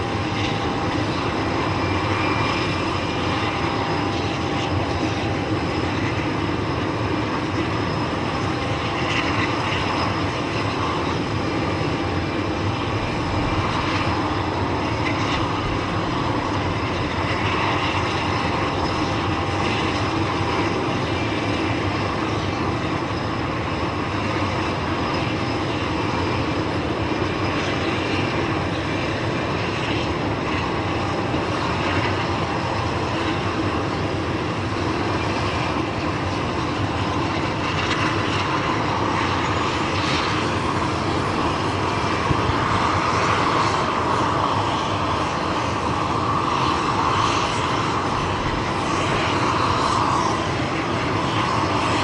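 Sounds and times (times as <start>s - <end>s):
turboprop engines idling: 0.0s - 52.0s.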